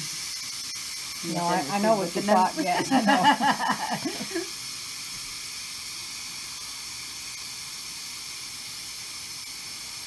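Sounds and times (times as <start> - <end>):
steam hissing from pressure cooker: 0.0 - 10.0.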